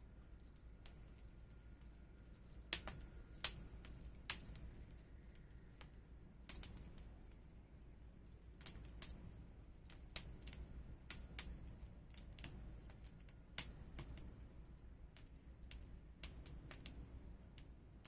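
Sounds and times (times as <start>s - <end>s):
firewood crackling and popping: 0.2s - 18.0s.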